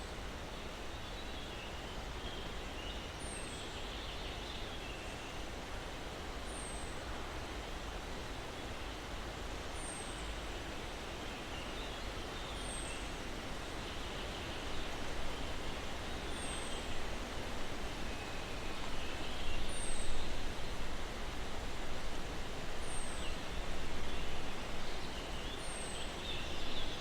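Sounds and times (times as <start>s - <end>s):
breeze rustling through pine trees: 0.0s - 27.0s.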